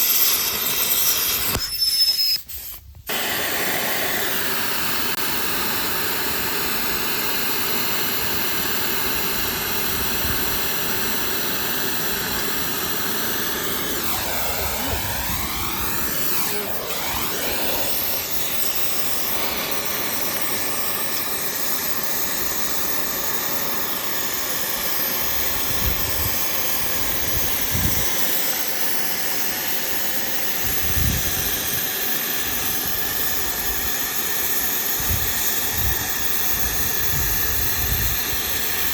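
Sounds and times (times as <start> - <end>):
cutting torch hissing: 0.0 - 38.9.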